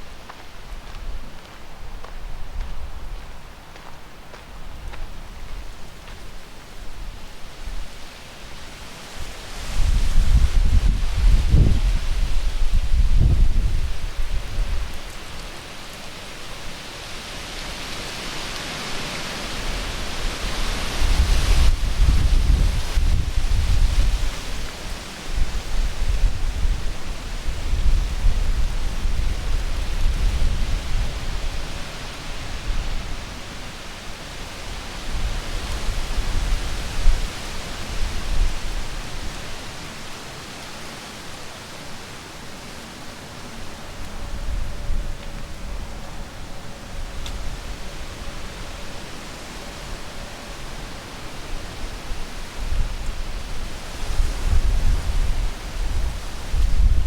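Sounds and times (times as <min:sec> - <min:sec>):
wind buffeting microphone: 0:00.0 - 0:08.0, 0:09.1 - 0:15.3, 0:19.6 - 0:39.8, 0:43.6 - 0:57.0
wind rushing through trees: 0:00.0 - 0:57.0.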